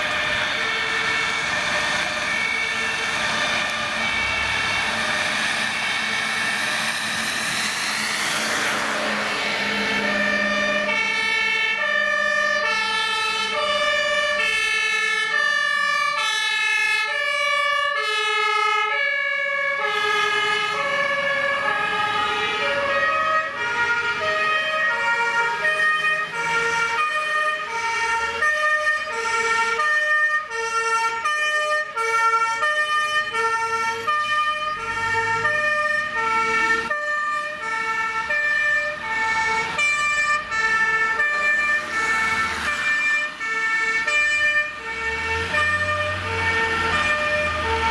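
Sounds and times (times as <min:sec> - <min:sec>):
two-tone fire engine sirens: 0:00.0 - 0:47.9.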